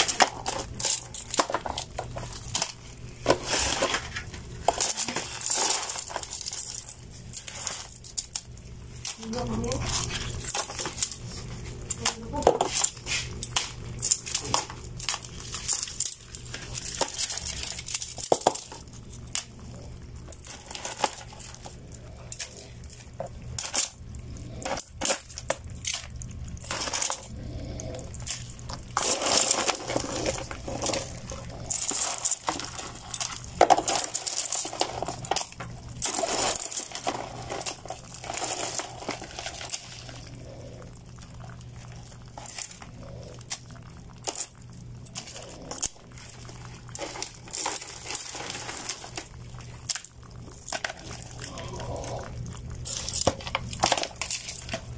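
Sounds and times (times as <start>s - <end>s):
crabs clattering in plastic basin: 0.0s - 27.3s, 28.1s - 40.4s, 41.0s - 54.9s
low steady hum: 0.0s - 54.9s.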